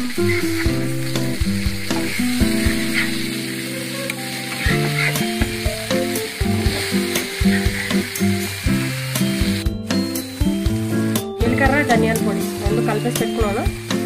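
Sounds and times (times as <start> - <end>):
fish sizzling in oil: 0.0 - 14.0.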